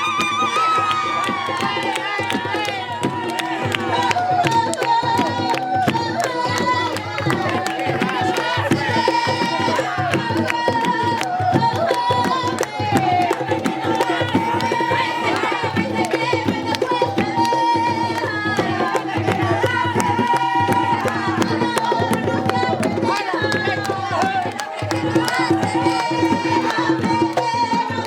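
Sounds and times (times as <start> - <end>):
hand drums fast rhythm: 0.0 - 28.0
voices singing: 0.0 - 28.0.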